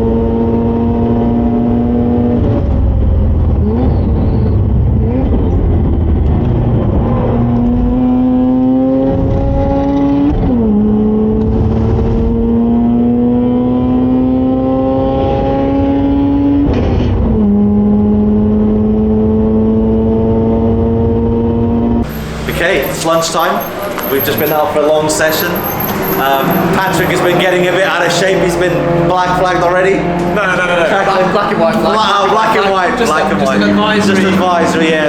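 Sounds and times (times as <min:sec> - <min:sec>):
road and wind rumble: 0:00.0 - 0:35.0
rotary engine revving under load: 0:00.0 - 0:35.0.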